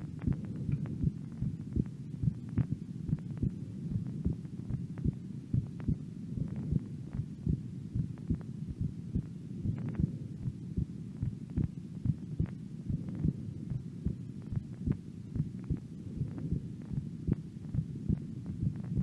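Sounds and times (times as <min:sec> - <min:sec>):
constant low rumble: 0:00.0 - 0:19.0
heartbeat thumps: 0:00.0 - 0:19.0.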